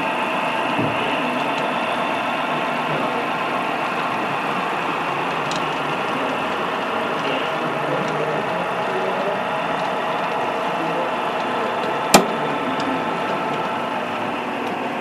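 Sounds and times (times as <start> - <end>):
diesel engine sound: 0.0 - 15.0.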